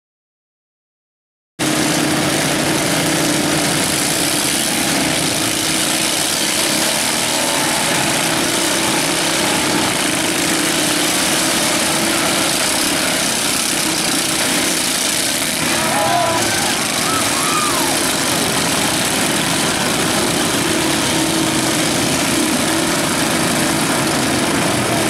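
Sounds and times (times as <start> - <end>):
riding lawn mower engines idling: 1.6 - 25.0.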